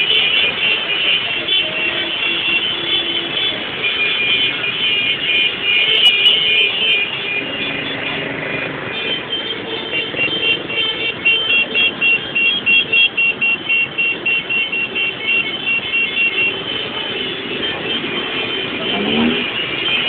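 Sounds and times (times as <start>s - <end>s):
horns honking rhythmically: 0.0s - 20.0s
motorcycles in traffic: 0.0s - 20.0s.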